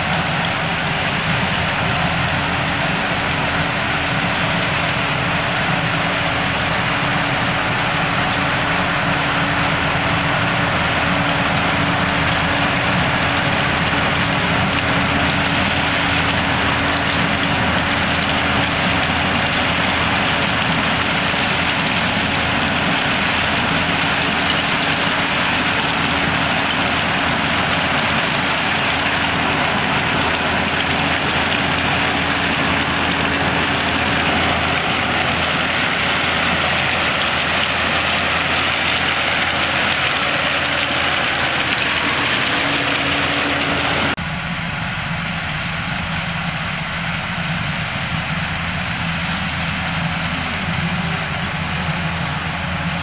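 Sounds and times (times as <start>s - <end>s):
bulldozer diesel engine running: 0.0s - 53.0s.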